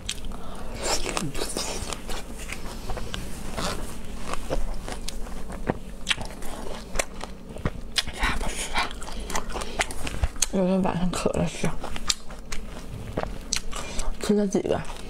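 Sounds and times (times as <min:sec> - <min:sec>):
person chewing crisp fruit: 0:00.0 - 0:15.0.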